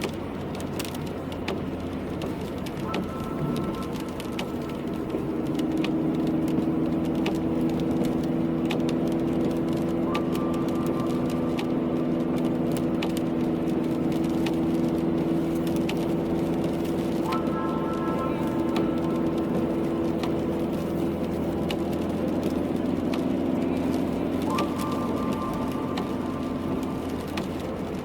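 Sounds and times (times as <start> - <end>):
car driving on wet road: 0.0 - 28.0
raindrops ticking: 0.0 - 28.0.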